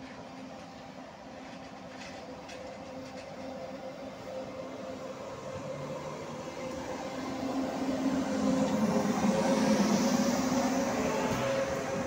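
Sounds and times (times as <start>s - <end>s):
electric train rolling past: 0.0s - 12.0s.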